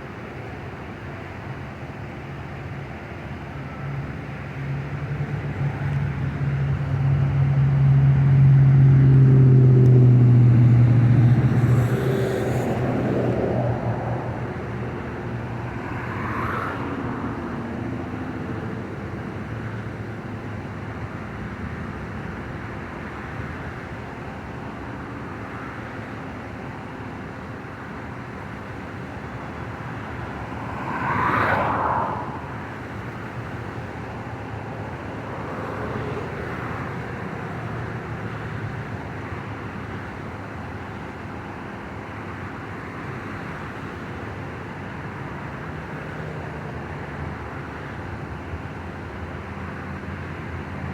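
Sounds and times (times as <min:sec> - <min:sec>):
traffic noise: 0:00.0 - 0:50.9
wind: 0:00.0 - 0:50.9.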